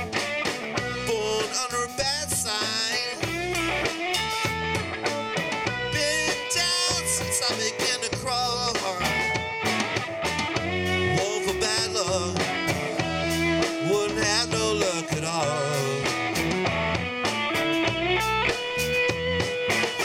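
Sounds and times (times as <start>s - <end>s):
bass guitar: 0.0s - 20.0s
drum kit: 0.0s - 20.0s
electric guitar solo: 0.0s - 20.0s.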